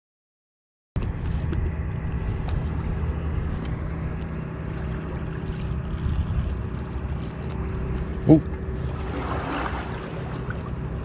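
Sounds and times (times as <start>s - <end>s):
boat engine humming: 1.0s - 11.0s.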